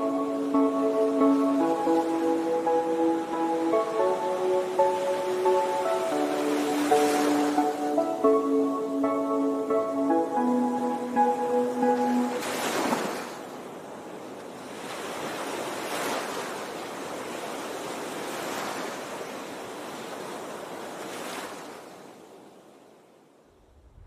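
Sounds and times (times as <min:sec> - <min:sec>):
sea waves washing: 0:00.0 - 0:22.2.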